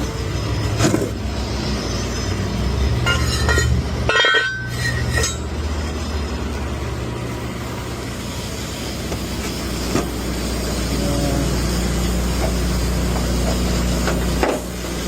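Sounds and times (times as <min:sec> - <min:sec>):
transfer pump humming: 0:00.0 - 0:15.0.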